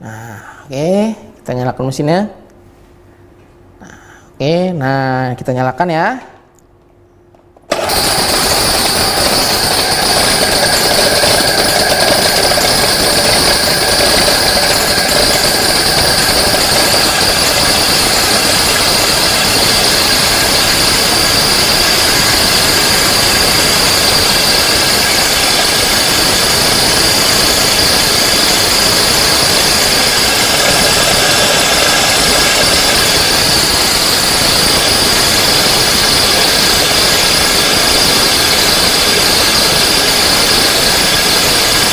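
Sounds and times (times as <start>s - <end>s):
electric grain mill grinding: 7.7s - 41.9s.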